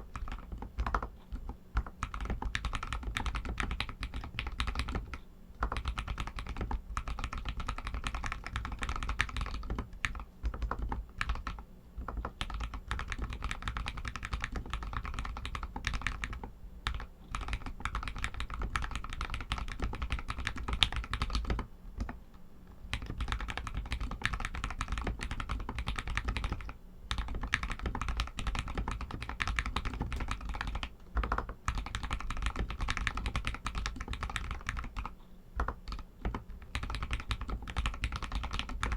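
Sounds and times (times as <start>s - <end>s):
mechanical keyboard typing: 0.1s - 22.2s, 22.9s - 38.9s.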